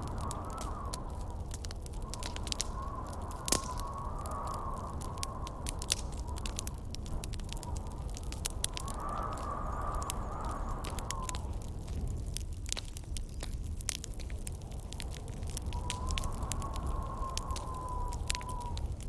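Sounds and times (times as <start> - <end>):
campfire crackling and popping: 0.0 - 19.0
howling wind: 0.0 - 19.0.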